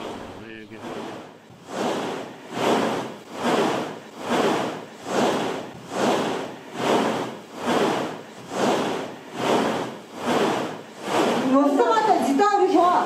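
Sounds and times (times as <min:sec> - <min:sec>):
rhythmic swishing strokes: 0:00.0 - 0:13.0.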